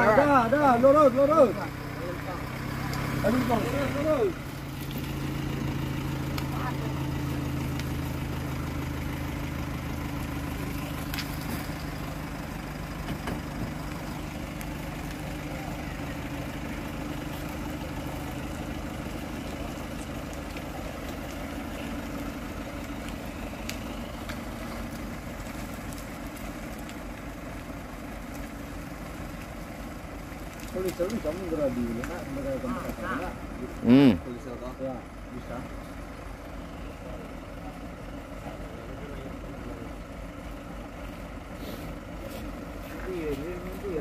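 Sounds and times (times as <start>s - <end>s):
pickup diesel engine running: 0.0s - 44.0s.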